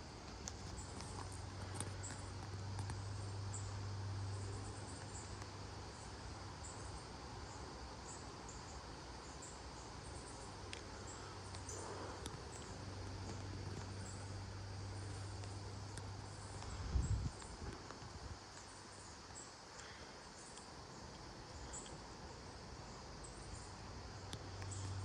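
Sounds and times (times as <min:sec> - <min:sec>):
constant low hum: 0:00.0 - 0:25.0
insects chirping: 0:00.0 - 0:25.0
outdoor hiss: 0:00.0 - 0:25.0.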